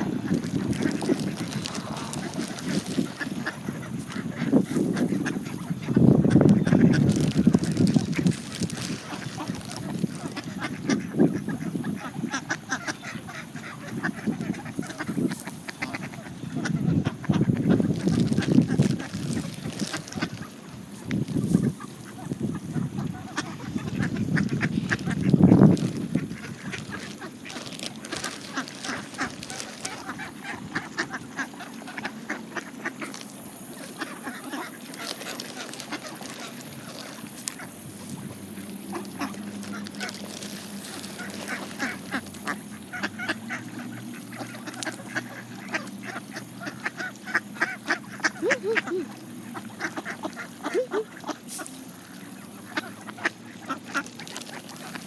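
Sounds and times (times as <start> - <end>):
bills pecking at seed: 0.0 - 55.0
ducks quacking: 0.0 - 55.0
geese honking: 0.0 - 55.0.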